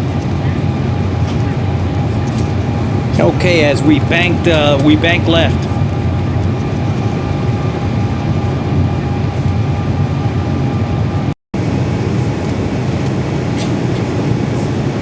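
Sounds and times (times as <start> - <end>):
faint steady whine: 0.0 - 15.0
jet engine and airflow roar: 0.0 - 15.0.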